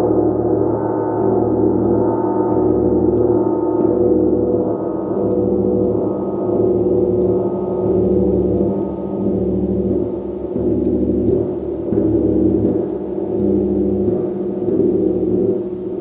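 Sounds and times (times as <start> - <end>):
gong sustained tones: 0.0 - 16.0.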